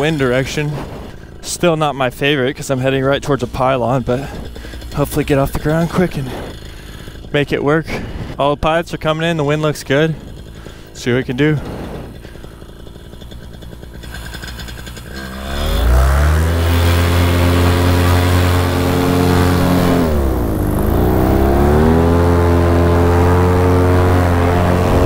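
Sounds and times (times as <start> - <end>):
paramotor engine and propeller: 0.0 - 25.0.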